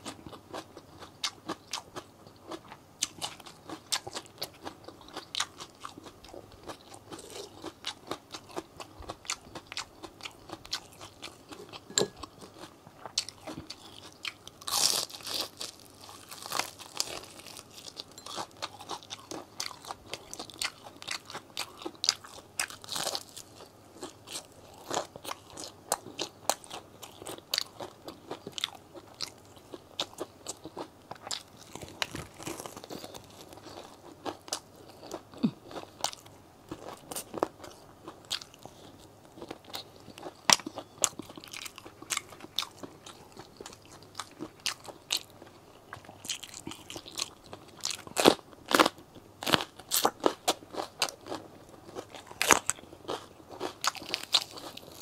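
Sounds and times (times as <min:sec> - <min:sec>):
crunching fried chicken: 0:00.0 - 0:55.0.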